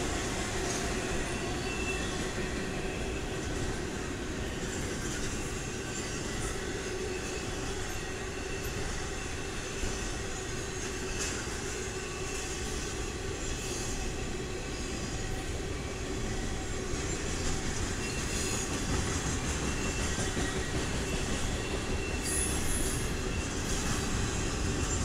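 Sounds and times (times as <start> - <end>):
freight train rumbling and rattling: 0.0 - 25.0
faint wheel squeal: 1.1 - 3.3, 4.5 - 25.0.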